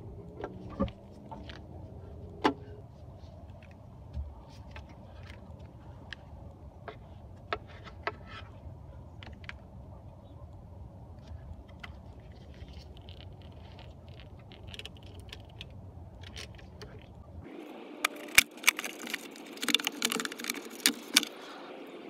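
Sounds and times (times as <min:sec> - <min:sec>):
low steady background rumble: 0:00.0 - 0:22.0.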